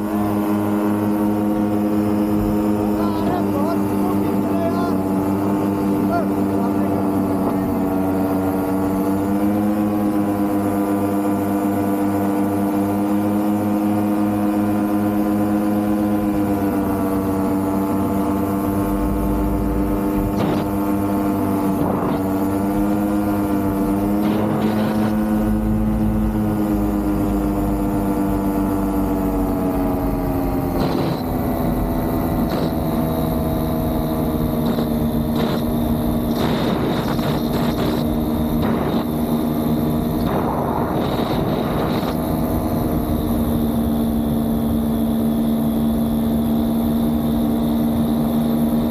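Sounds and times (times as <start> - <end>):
paramotor engine drone: 0.0 - 48.9.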